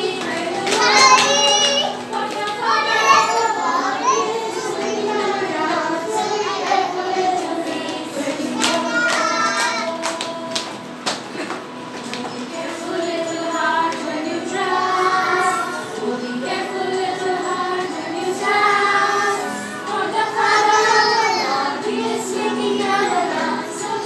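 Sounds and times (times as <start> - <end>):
children singing in unison: 0.0 - 24.0.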